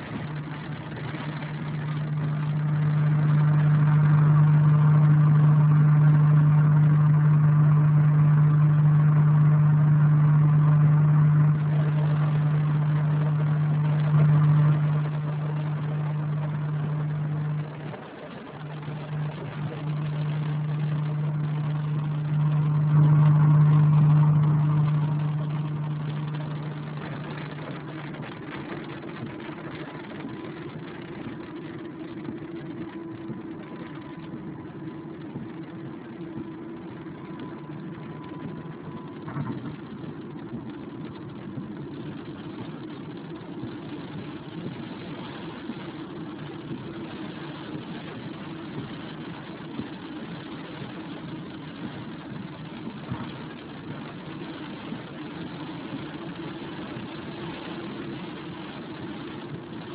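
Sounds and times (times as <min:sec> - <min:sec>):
car engine drone: 0:00.0 - 0:59.9
road noise hiss: 0:00.0 - 0:59.9.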